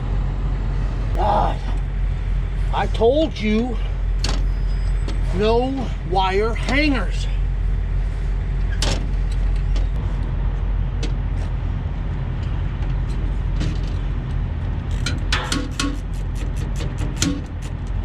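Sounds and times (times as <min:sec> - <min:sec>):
diesel truck engines idling: 0:00.0 - 0:18.0.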